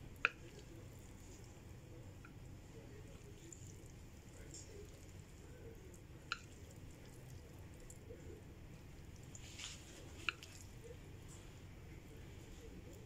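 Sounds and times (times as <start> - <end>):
soft squish of noodles: 0.0 - 13.0.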